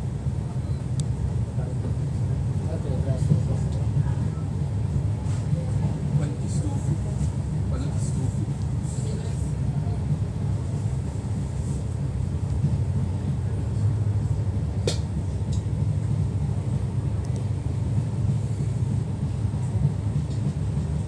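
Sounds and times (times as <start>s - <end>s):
train rumbling on track: 0.0s - 21.0s.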